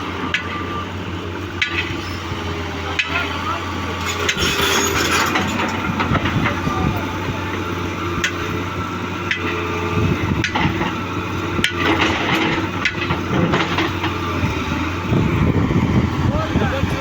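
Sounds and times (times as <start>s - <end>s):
excavator diesel engine running: 0.0s - 17.0s
excavator knocks and clanks: 0.0s - 17.0s.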